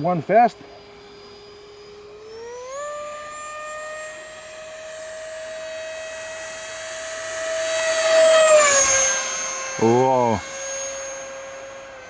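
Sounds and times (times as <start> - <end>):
electric ducted fan whine: 0.0 - 12.0.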